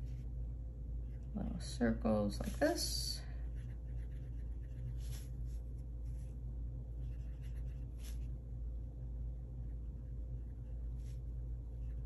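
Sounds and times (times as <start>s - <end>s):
faint scratching and scraping: 0.0s - 0.4s, 1.0s - 8.4s, 9.4s - 12.0s
low hum: 0.0s - 12.0s.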